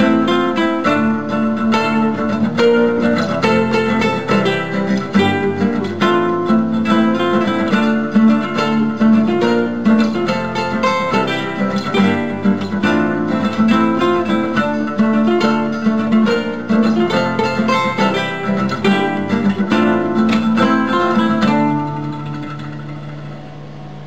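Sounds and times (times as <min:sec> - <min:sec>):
acoustic guitar plucked notes: 0:00.0 - 0:24.0.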